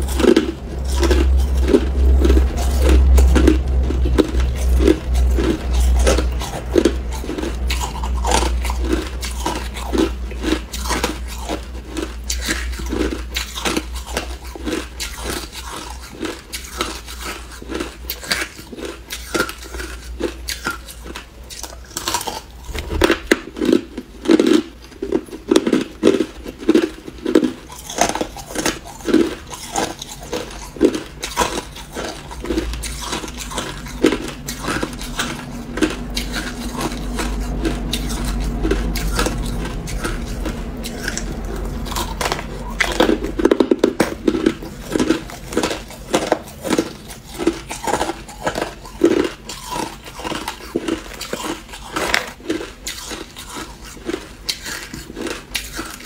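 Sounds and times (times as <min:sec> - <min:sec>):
person crunching ice: 0:00.0 - 0:56.0.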